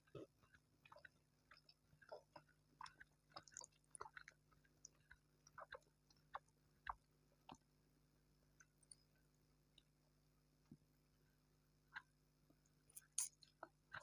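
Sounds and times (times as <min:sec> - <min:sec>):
chewing food with mouth clicks: 0:00.0 - 0:07.7, 0:08.5 - 0:10.0, 0:11.9 - 0:14.0.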